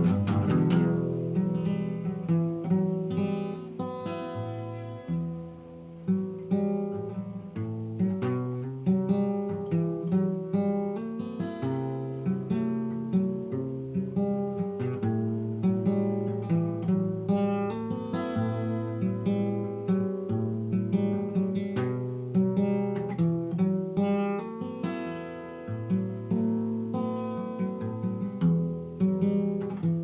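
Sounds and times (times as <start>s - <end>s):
acoustic guitar melody: 0.0s - 30.0s.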